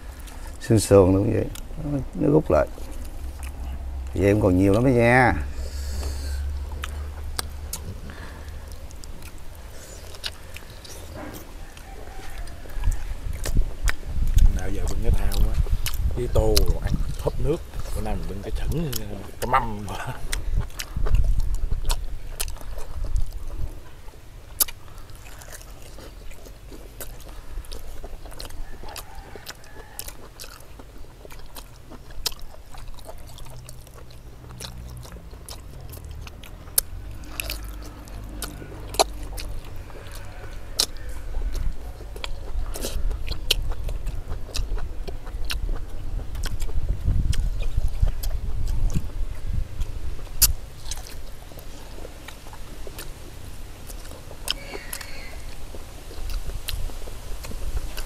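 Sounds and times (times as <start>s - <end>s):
people chewing meat: 0.0s - 58.0s.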